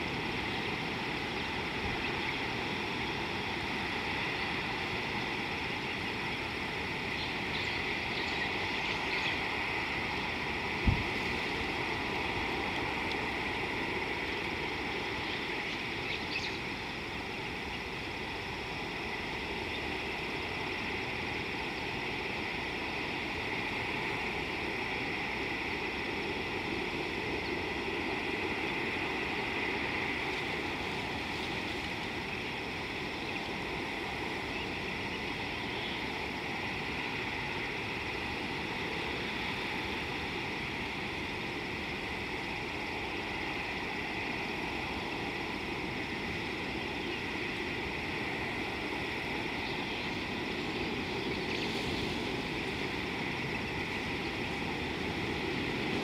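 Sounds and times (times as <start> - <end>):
steady outdoor hiss: 0.0 - 56.0.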